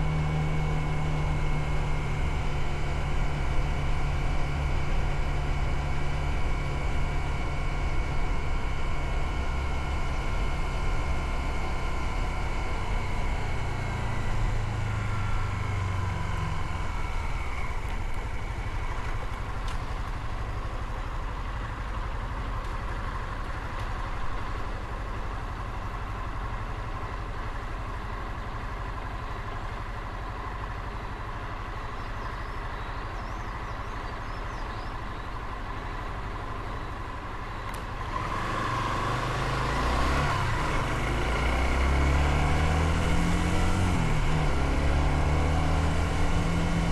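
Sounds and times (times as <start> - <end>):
motorcycle engine: 0.0 - 46.9
road and wind noise: 0.0 - 46.9.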